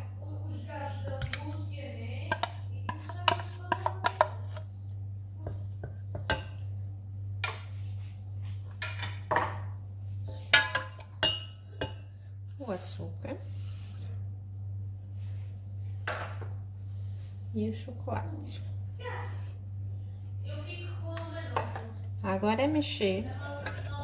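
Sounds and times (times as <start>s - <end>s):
wooden spoon stirring in metal pot: 1.1s - 9.3s, 9.9s - 14.3s, 15.0s - 24.0s.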